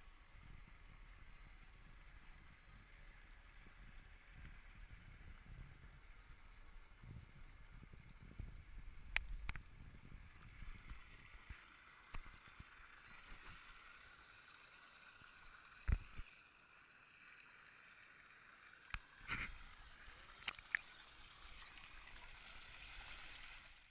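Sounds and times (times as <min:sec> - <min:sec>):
pool water trickling and lapping: 0:00.0 - 0:23.9.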